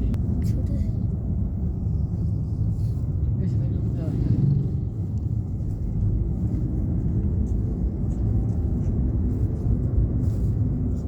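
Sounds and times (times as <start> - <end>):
low rumble of moving vehicle: 0.0 - 11.0.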